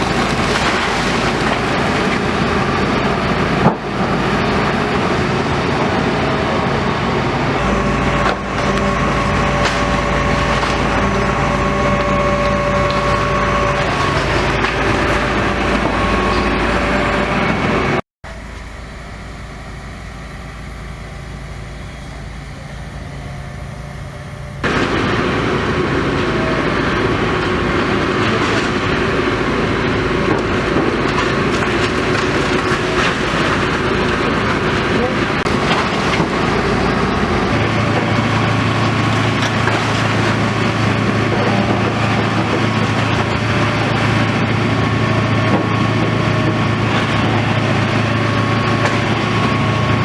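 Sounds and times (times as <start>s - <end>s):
demolition machine engine running: 0.0s - 50.0s.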